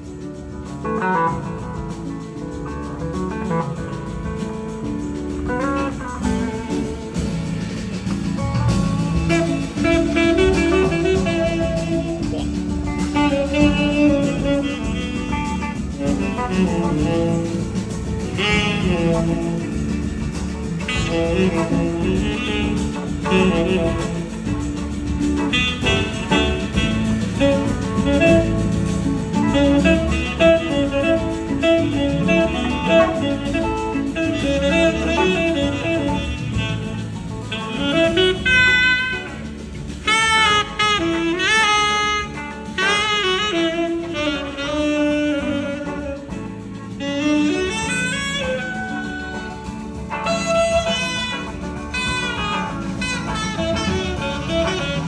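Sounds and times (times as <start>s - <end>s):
bass: 0.0s - 55.0s
drum kit: 0.0s - 55.0s
electric guitars: 0.0s - 55.0s
held melodic line: 0.0s - 55.0s
saxophone: 0.0s - 55.0s.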